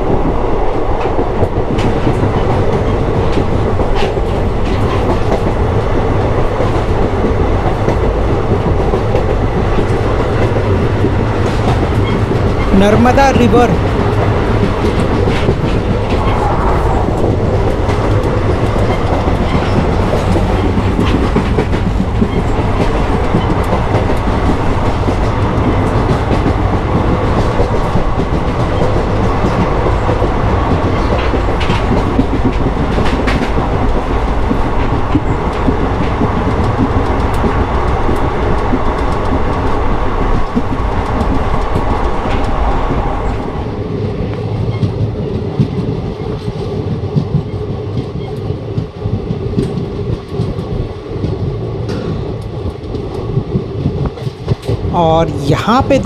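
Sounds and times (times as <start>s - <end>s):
rail joint clicks: 0.0s - 54.9s
train wheels rumbling on rail: 0.0s - 56.0s.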